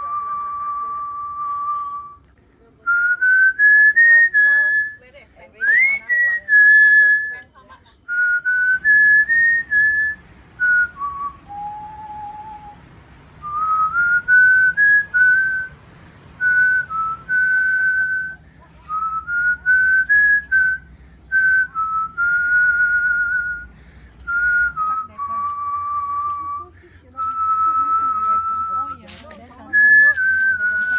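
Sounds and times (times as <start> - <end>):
person whistling a tune: 0.0 - 5.0, 5.6 - 7.4, 8.1 - 12.8, 13.4 - 15.8, 16.4 - 23.7, 24.3 - 30.9.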